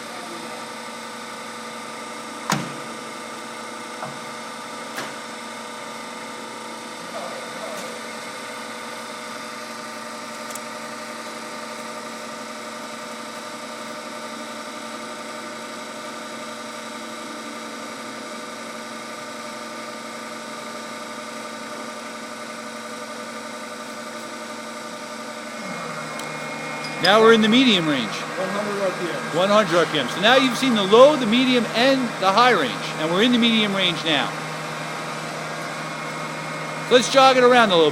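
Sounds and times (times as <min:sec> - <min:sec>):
lathe machine humming: 0:00.0 - 0:37.9.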